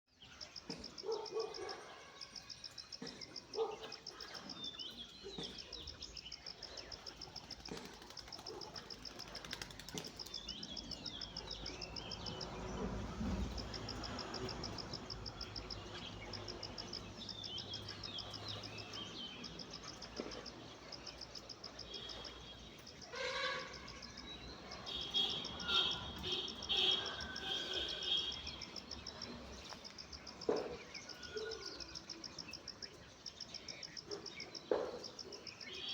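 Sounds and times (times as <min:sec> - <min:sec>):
birds chirping: 0:00.1 - 0:35.9.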